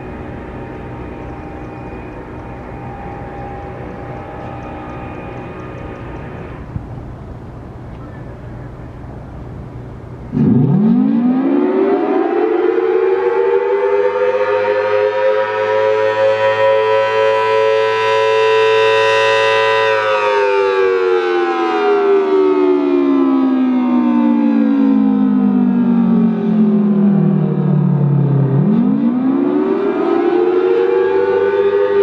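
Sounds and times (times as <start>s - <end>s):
siren winding up and down: 0.0s - 6.7s, 10.3s - 32.0s.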